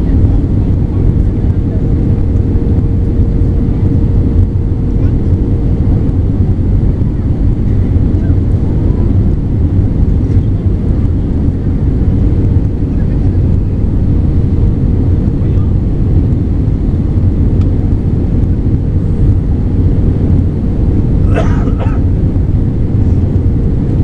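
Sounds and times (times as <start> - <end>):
airplane cabin engine roar: 0.0 - 24.0
faint steady hum: 0.0 - 24.0.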